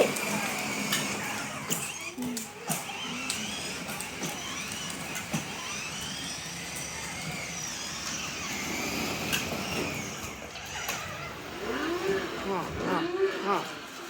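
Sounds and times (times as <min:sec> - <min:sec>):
small motor whirring: 0:00.0 - 0:14.0.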